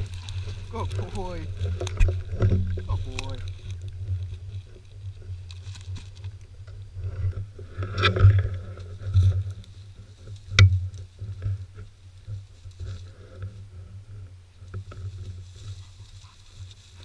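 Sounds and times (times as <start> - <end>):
rustling through dry grass: 0.0 - 17.0.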